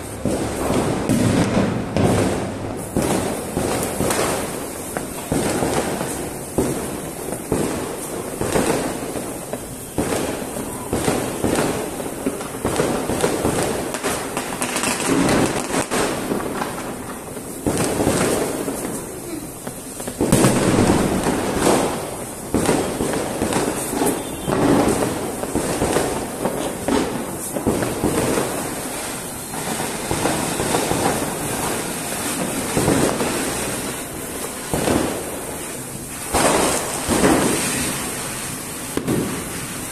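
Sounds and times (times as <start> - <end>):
firecracker pops and bangs: 0.0 - 39.9
fireworks hissing and crackling: 0.0 - 39.9.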